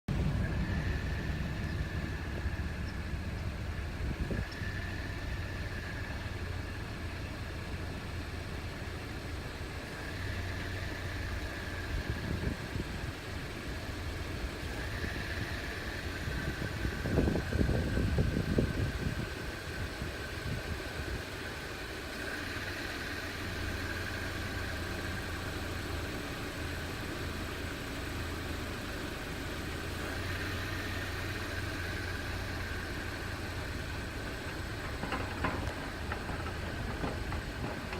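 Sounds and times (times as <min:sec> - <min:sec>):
car engine rumbling: 0:00.0 - 0:37.9.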